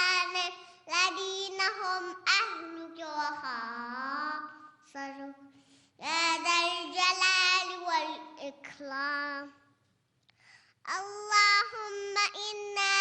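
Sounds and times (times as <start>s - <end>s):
child chanting melodically: 0.0s - 9.8s, 10.7s - 13.0s.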